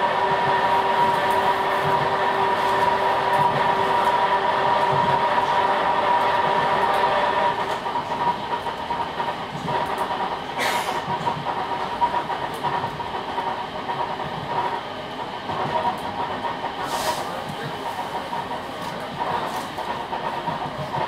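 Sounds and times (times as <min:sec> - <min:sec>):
train running noise: 0:00.0 - 0:21.0
wheels clicking on rails: 0:00.0 - 0:21.0.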